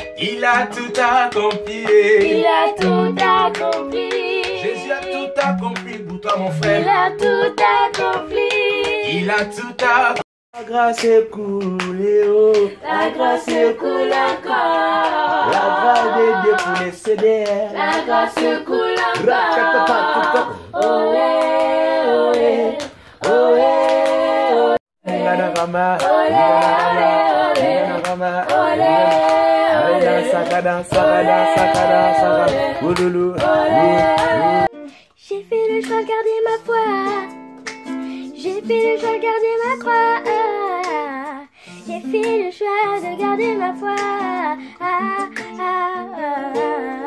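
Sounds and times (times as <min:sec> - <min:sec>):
hand-clapping: 0:00.0 - 0:24.4, 0:25.1 - 0:34.7, 0:35.6 - 0:41.4, 0:42.0 - 0:42.5, 0:43.2 - 0:44.4, 0:45.1 - 0:45.7, 0:46.5 - 0:46.8
voices singing a cappella: 0:00.0 - 0:34.7, 0:38.4 - 0:47.0.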